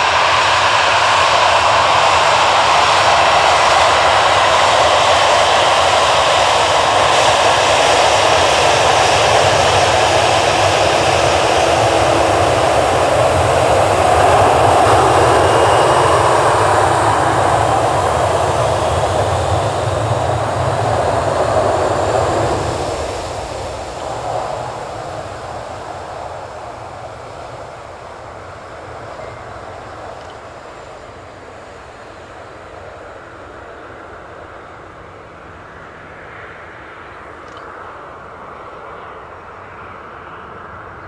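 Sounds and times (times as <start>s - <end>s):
jet engines rumbling with high whine: 0.0s - 41.0s.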